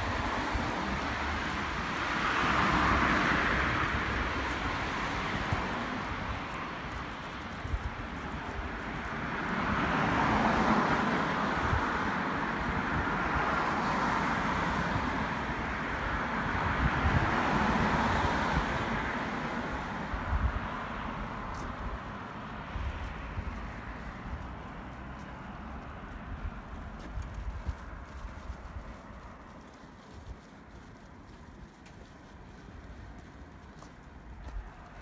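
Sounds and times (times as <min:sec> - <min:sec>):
cars passing on street: 0:00.0 - 0:35.0.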